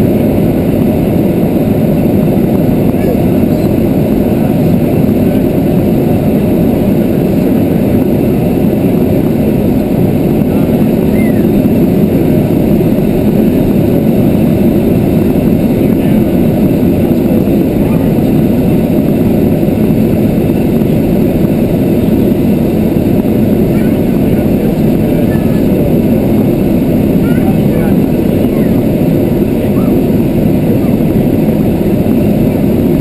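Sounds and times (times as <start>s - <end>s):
aircraft engine and airflow drone: 0.0s - 33.0s.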